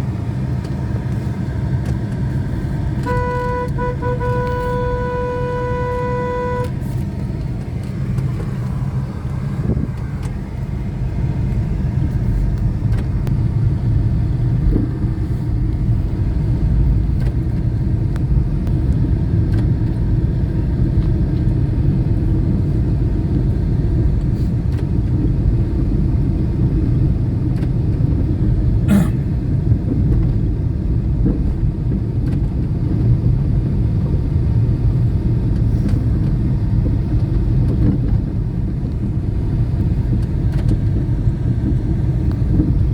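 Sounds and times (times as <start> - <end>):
car rumbling on the move: 0.0 - 42.9.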